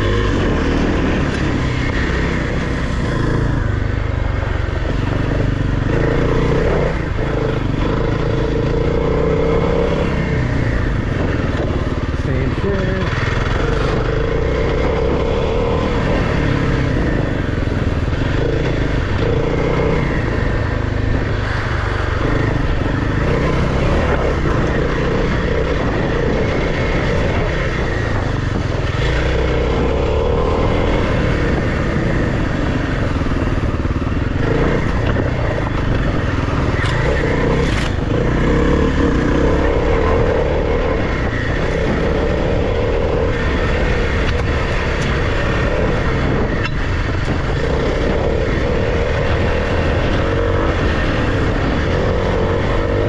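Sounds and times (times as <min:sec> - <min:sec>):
dirt bike engine running: 0:00.0 - 0:53.0
wind rumble on microphone: 0:00.0 - 0:53.0.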